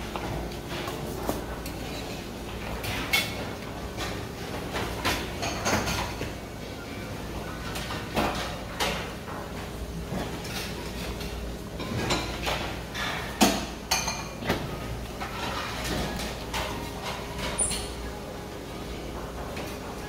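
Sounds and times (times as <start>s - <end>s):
dishes and utensils clinking: 0.2s - 6.4s, 7.6s - 18.1s.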